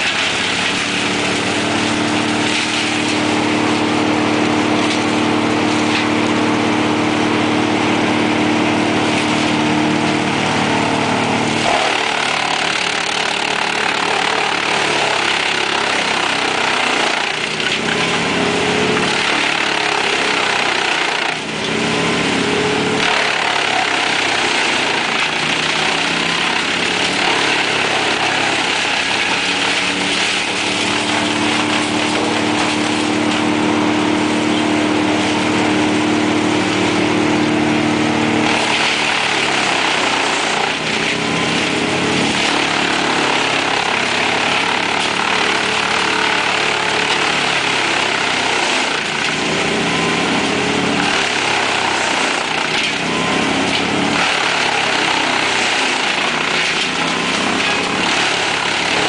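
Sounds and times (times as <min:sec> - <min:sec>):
wood chipper chipping branches: 0:00.0 - 0:59.0
wood chipper engine hum: 0:00.0 - 0:59.0.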